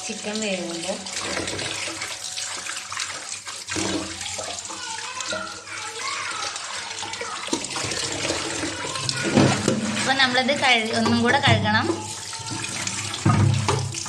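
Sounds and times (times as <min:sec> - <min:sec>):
tap water running and splashing: 0:00.0 - 0:14.0.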